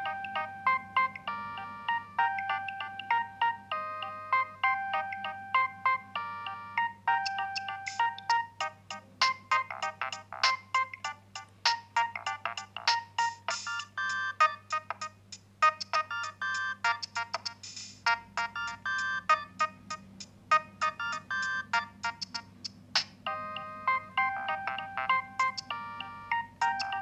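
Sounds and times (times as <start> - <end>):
mobile phone polyphonic ringtone: 0.0 - 17.5, 18.1 - 22.5, 23.3 - 27.0.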